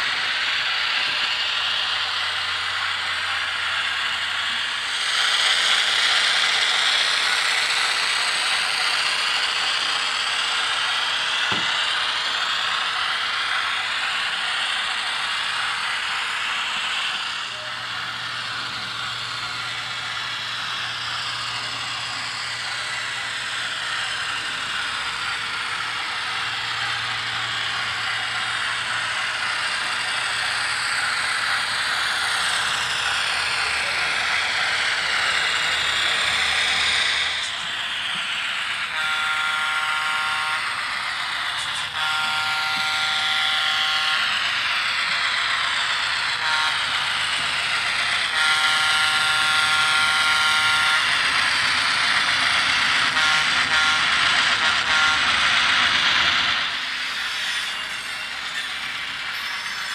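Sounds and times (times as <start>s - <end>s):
model locomotive whirring on track: 0.0s - 59.9s.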